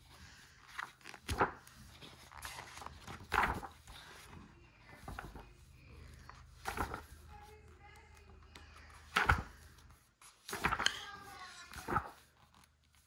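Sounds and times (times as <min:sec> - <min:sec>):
book pages turning: 0:00.0 - 0:13.0.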